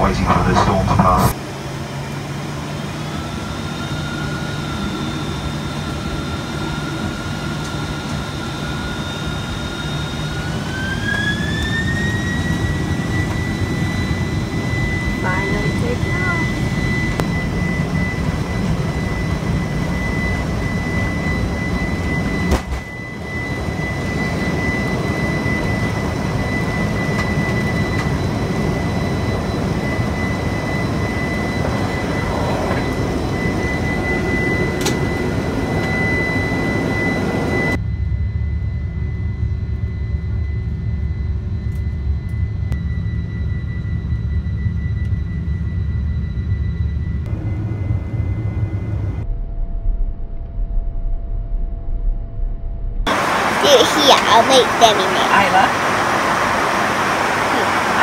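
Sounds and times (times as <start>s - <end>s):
thin high whine: 0.0s - 1.4s, 3.0s - 50.4s, 53.1s - 58.0s
jet engines from inside cabin: 0.0s - 58.0s.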